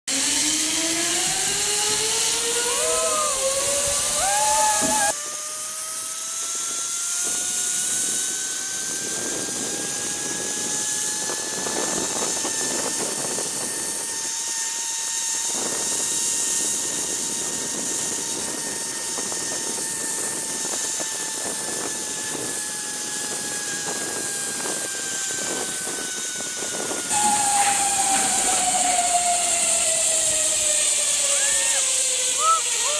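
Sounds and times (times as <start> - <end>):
wind hiss on microphone: 0.1 - 32.9
zipline pulleys whining on cable: 0.1 - 32.9.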